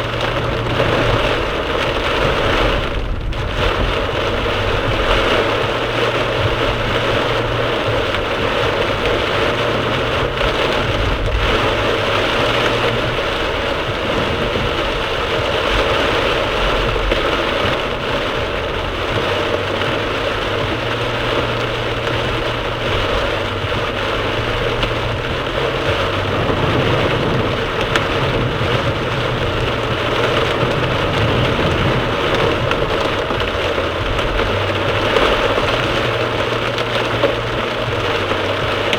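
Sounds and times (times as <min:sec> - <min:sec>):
engine and road noise hum: 0:00.0 - 0:38.9
heavy rain drumming on car: 0:00.0 - 0:38.9.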